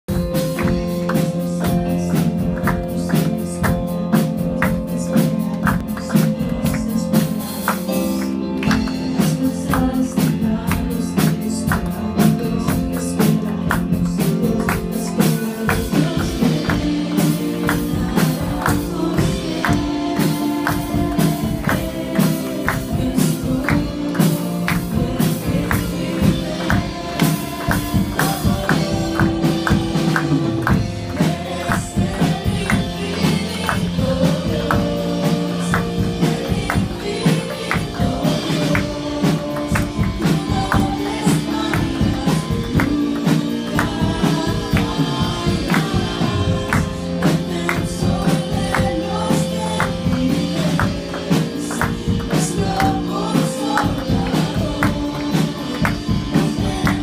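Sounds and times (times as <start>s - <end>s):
congregation singing: 0.1s - 57.0s
person singing with band: 0.1s - 57.0s
rhythmic percussive beat: 0.1s - 57.0s.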